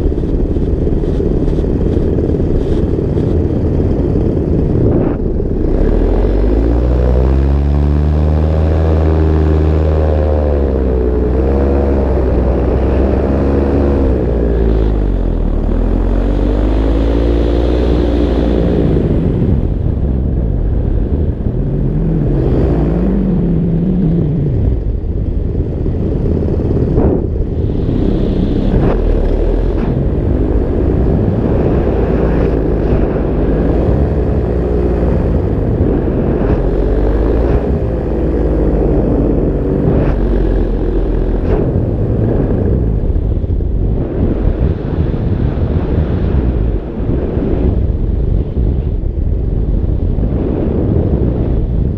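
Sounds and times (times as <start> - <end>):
paramotor engine and propeller: 0.0 - 51.9
wind rumble on microphone: 0.0 - 51.9.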